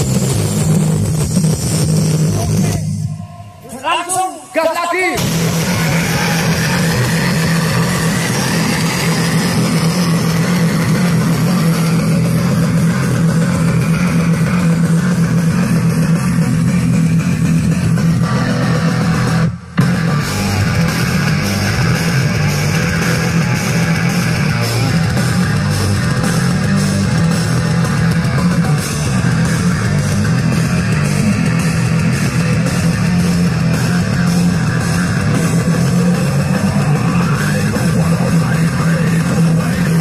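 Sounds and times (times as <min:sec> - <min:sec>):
loud music with heavy bass and guitar: 0:00.0 - 0:40.0.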